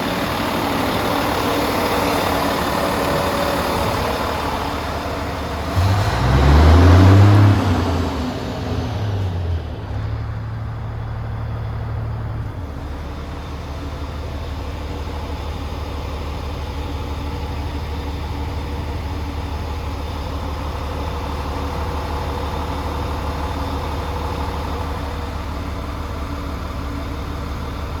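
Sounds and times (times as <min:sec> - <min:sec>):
diesel truck engine idling: 0:00.0 - 0:28.0
diesel truck engine revving: 0:00.0 - 0:28.0.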